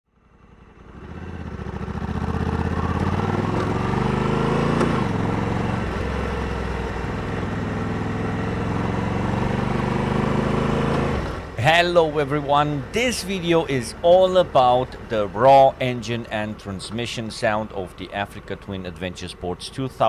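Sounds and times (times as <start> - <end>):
motorcycle engine revving: 0.3 - 18.7.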